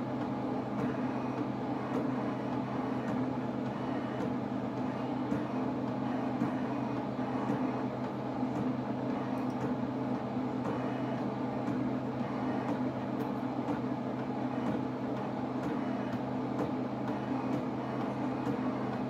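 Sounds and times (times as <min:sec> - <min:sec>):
pen plotter motors whirring: 0:00.0 - 0:19.0.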